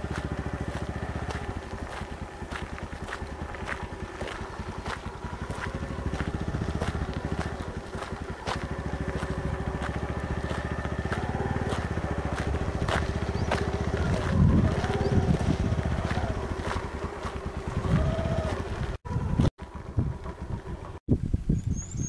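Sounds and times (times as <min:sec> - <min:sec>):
vehicle engine revving: 0:00.0 - 0:21.0
knocks and rattles from bumpy ride: 0:00.0 - 0:21.2.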